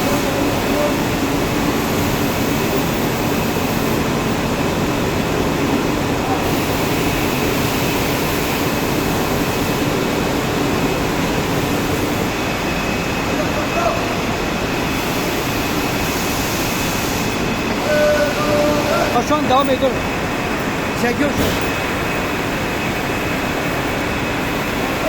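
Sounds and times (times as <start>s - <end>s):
mill machinery hum: 0.0s - 25.0s.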